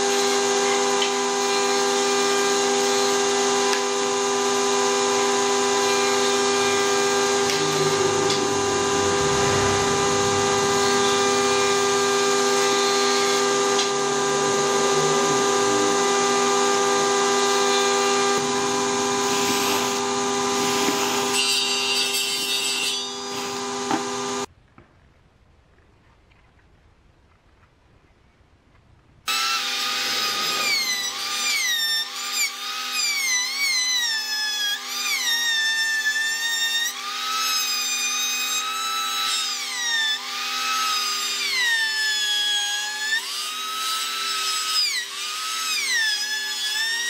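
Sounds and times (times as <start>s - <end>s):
power tool motor whining: 0.0s - 24.5s, 29.3s - 47.0s.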